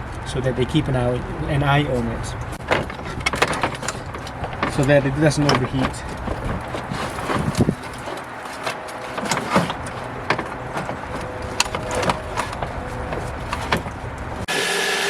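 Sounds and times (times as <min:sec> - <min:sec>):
clicks and knocks of car work: 0:01.9 - 0:14.5.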